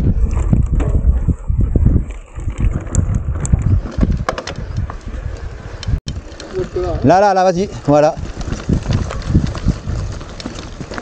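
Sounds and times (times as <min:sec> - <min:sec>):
bike knocking and rattling: 0:00.0 - 0:11.0
bike tyres rumbling on dirt: 0:00.0 - 0:11.0
wind on microphone: 0:00.0 - 0:11.0.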